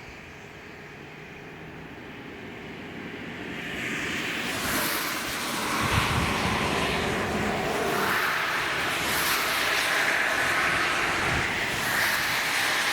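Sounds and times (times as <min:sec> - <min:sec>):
vehicle tyre and engine hiss: 0:00.0 - 0:12.9.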